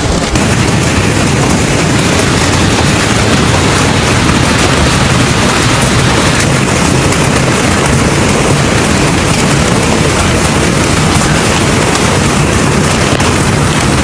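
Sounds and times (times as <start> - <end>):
heavy rain roar: 0.0 - 14.0.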